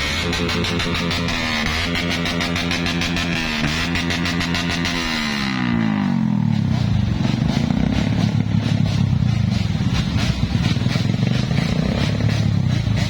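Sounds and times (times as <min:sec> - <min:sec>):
motorcycle engines crackling: 0:00.0 - 0:13.0.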